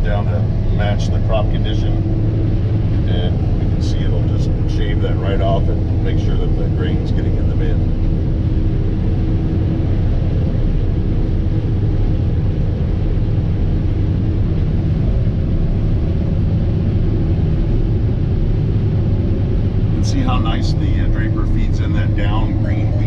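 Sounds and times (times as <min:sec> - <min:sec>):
combine harvester droning: 0:00.0 - 0:23.0
faint steady hum: 0:00.0 - 0:23.0.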